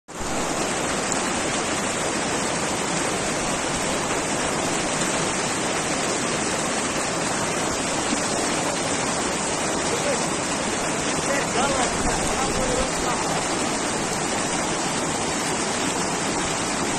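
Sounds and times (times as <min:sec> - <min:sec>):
river rushing over rocks: 0:00.1 - 0:16.9.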